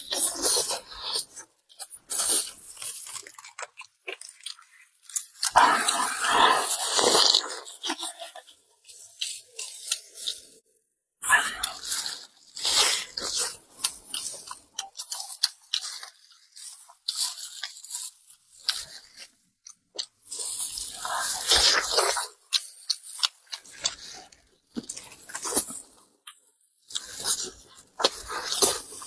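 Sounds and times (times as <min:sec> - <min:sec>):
person chewing crunchy food: 0:00.0 - 0:10.6, 0:11.2 - 0:29.0.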